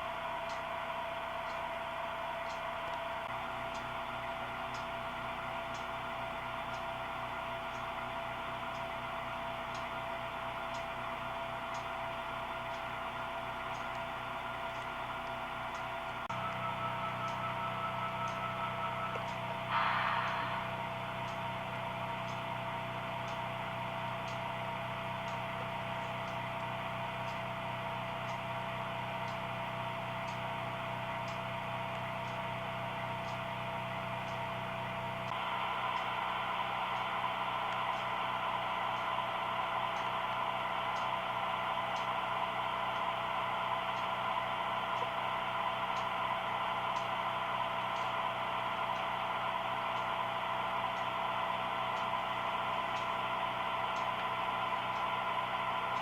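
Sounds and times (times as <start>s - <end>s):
model train mechanical hum: 0.0s - 56.0s
faint regular ticking: 0.2s - 56.0s.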